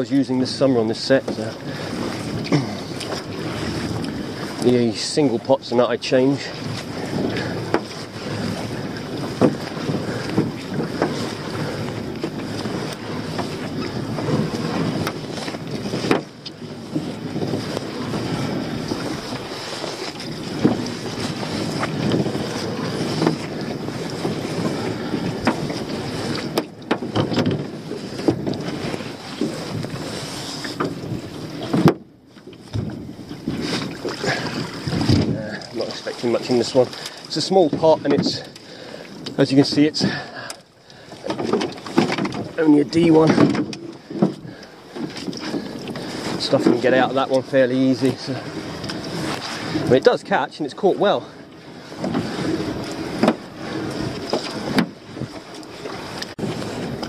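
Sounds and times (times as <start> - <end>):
wet rope rubbing and rustling: 0.0 - 38.6, 41.1 - 57.0
wind on microphone: 0.0 - 40.5, 41.3 - 57.0.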